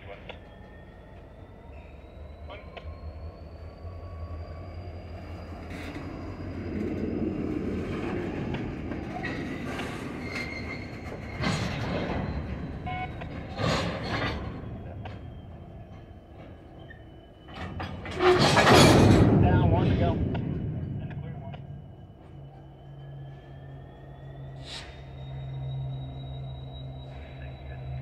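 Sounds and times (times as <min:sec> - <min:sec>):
high wheel squeal: 0:00.8 - 0:28.0
freight cars rolling: 0:02.1 - 0:28.0.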